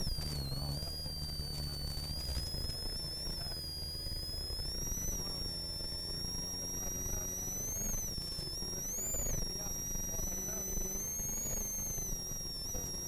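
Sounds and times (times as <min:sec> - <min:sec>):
turbo whistle: 0:00.0 - 0:13.0.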